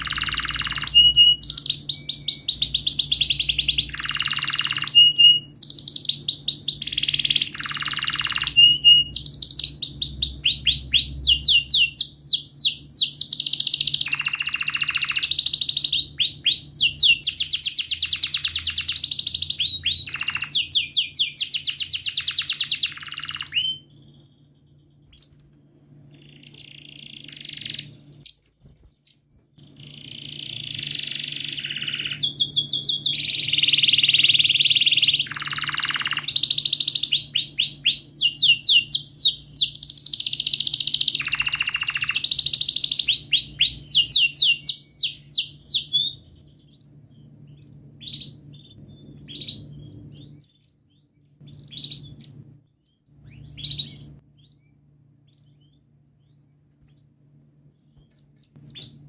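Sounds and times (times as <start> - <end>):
canary singing trills: 0.0 - 59.0
faint low hum: 0.0 - 59.0.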